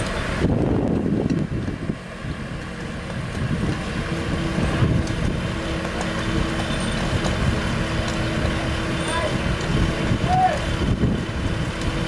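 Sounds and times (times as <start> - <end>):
engine idling rumble: 0.0 - 12.0.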